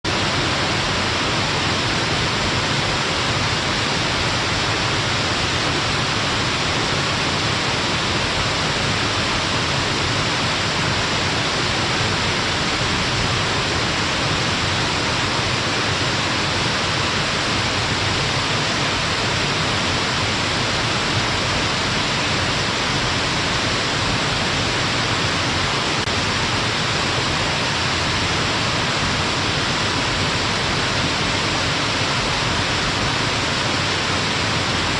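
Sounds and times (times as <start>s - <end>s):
water cascading down rock ledges: 0.1s - 34.9s.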